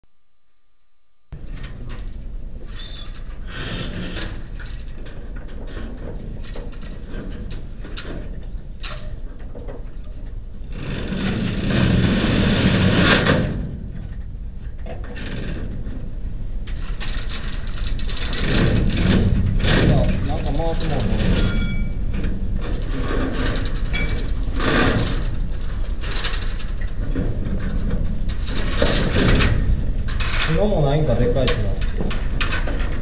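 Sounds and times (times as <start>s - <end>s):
clicks knocks and scrapes of repair work: 1.4s - 16.0s, 16.6s - 33.0s
steady low rumble: 1.4s - 33.0s.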